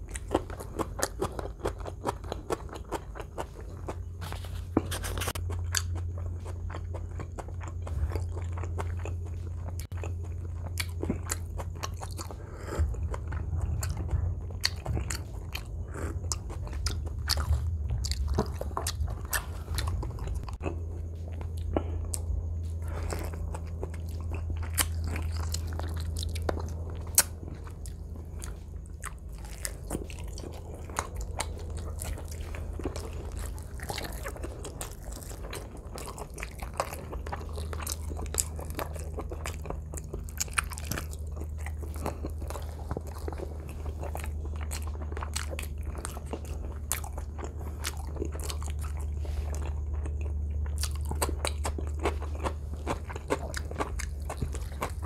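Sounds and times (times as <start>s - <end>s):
chewing and crunching: 0.0s - 55.0s
low steady hum: 0.0s - 55.0s.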